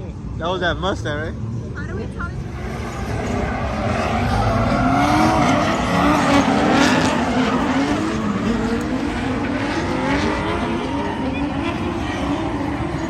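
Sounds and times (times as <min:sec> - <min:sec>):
car engine revving hard: 0:02.4 - 0:13.0
tires squealing: 0:02.4 - 0:13.0.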